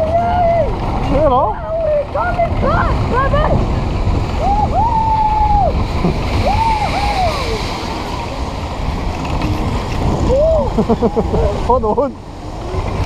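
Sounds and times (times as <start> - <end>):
ride car rumbling on steel track: 0.0 - 13.0
wind buffeting microphone: 0.0 - 13.0.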